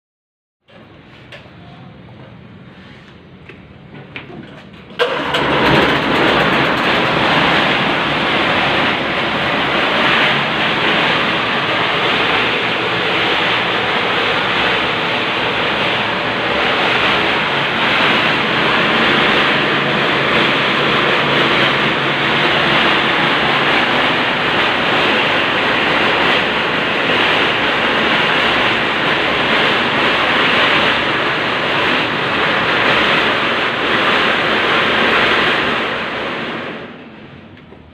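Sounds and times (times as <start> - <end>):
concrete mixer rumbling: 0.7 - 37.9.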